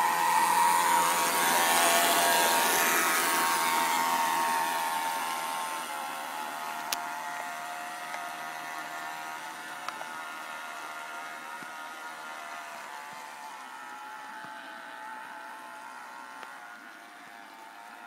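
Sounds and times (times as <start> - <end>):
model boat motor whining: 0.0 - 18.0.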